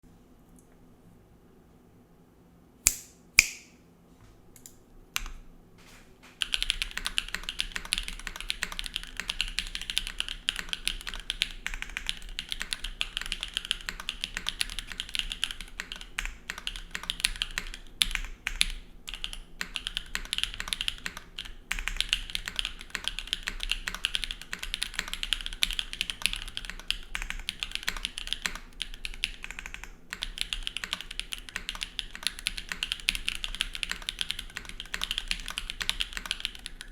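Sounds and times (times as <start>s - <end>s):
typing on mechanical keyboard: 6.3s - 36.9s.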